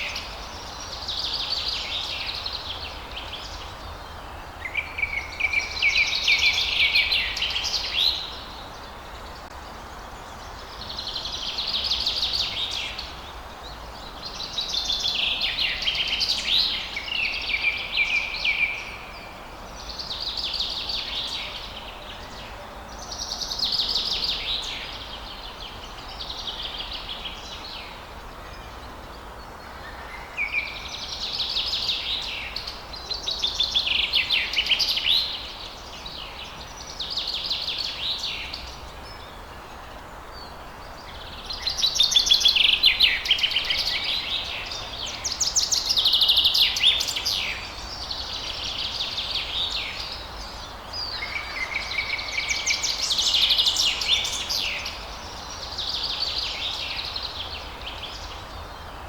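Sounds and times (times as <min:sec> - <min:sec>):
low background hiss: 0:00.0 - 0:59.0
songbird singing: 0:00.0 - 0:59.0.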